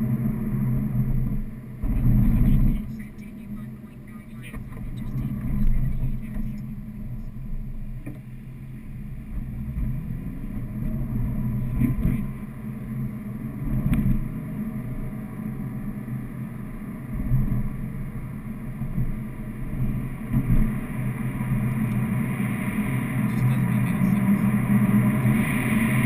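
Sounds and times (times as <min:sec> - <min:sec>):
car engine and exhaust droning: 0:00.0 - 0:26.0.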